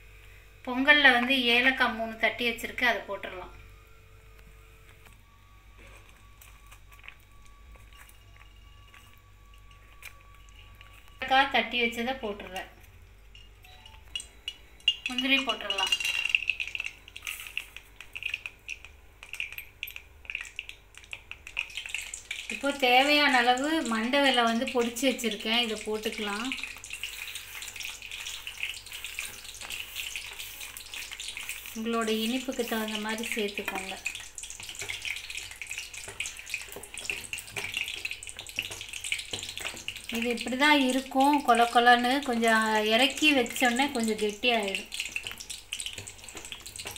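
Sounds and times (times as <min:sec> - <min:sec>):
light sizzle: 0:00.0 - 0:46.9
nuts frying with crackles and pops: 0:00.0 - 0:46.9
spoon stirring wet food: 0:05.8 - 0:11.5, 0:12.5 - 0:46.9.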